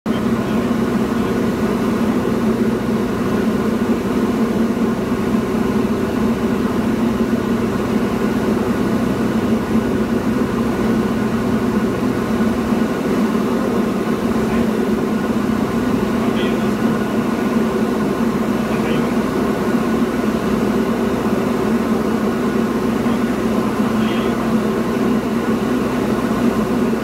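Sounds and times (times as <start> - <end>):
aircraft engine and propeller droning: 0.1 - 27.0.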